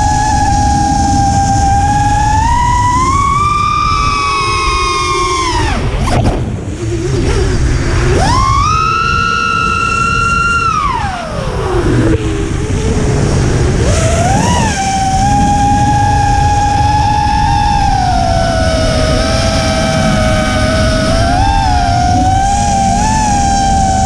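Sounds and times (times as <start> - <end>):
drone motors whining: 0.0 - 24.0
wind rumbling on microphone: 0.0 - 24.0.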